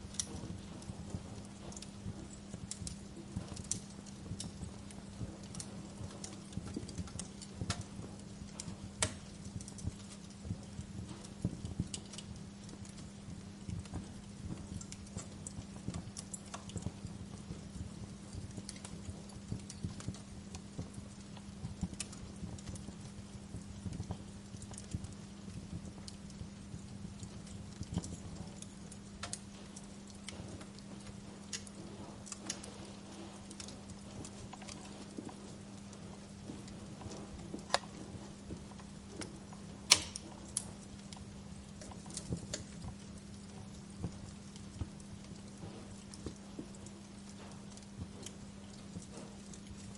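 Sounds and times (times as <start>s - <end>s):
faint steady hum: 0.0s - 49.9s
wood fire crackling: 0.0s - 49.9s.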